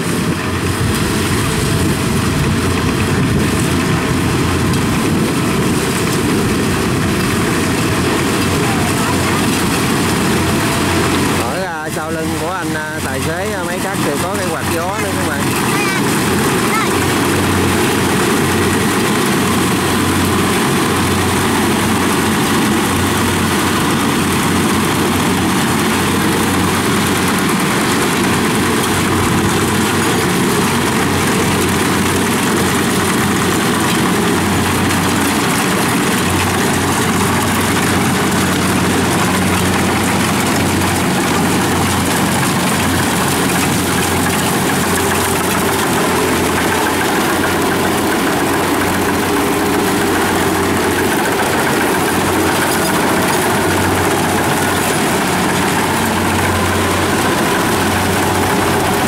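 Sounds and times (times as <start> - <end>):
diesel engine drone: 0.0 - 59.0
machinery clattering: 0.1 - 59.0.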